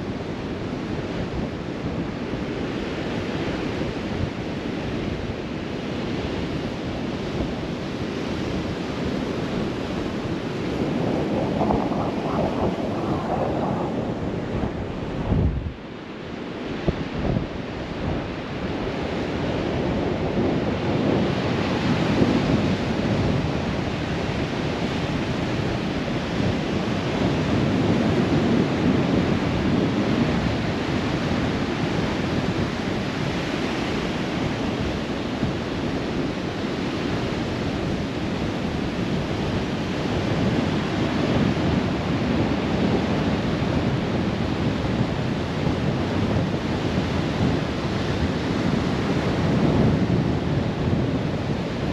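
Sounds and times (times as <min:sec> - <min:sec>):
strong wind buffeting microphone: 0:00.0 - 0:51.9
surf on beach: 0:00.0 - 0:51.9.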